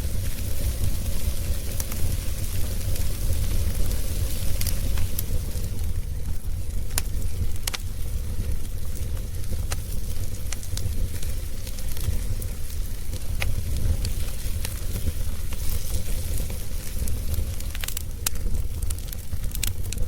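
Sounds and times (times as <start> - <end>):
flames rumbling: 0.0 - 20.0
logs crackling and popping: 0.0 - 20.0.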